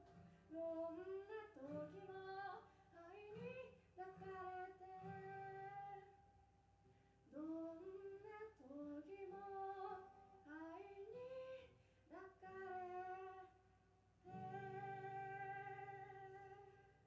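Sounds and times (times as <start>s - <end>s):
acoustic guitar: 0.0s - 17.0s
woman singing: 0.4s - 6.2s, 7.3s - 13.6s, 14.3s - 17.0s.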